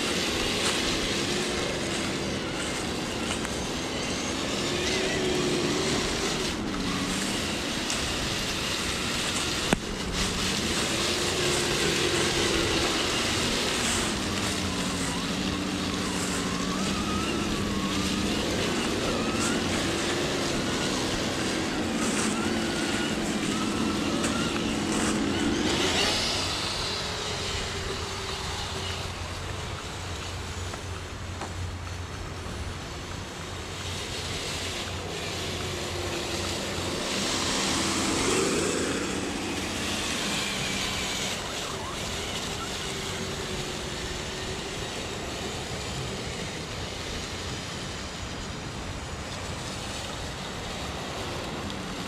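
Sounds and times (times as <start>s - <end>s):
toy car motor whining: 0.0s - 52.0s.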